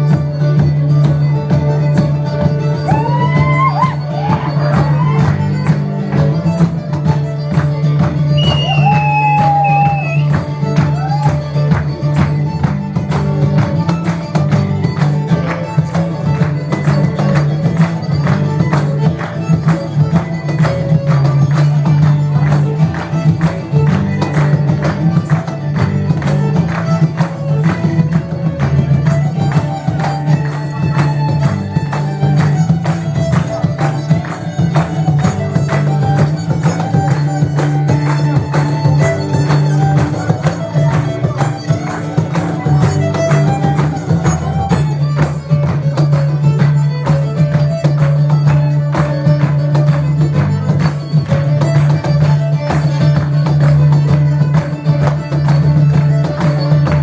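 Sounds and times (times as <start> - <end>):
fast percussion beat: 0.0 - 57.0
folk band playing a dance tune: 0.0 - 57.0.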